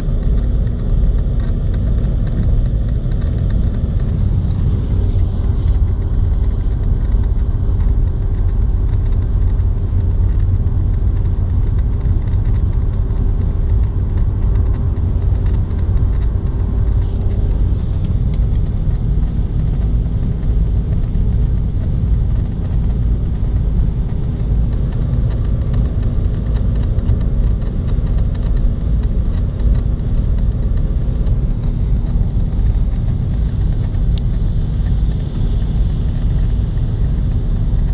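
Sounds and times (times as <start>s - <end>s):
engine and road rumble: 0.0s - 37.9s
fast irregular clicking: 0.1s - 37.9s.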